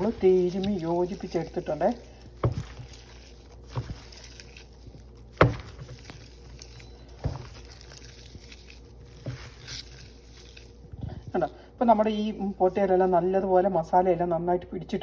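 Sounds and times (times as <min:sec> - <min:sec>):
wet handling of food in bowl: 0:00.0 - 0:13.3.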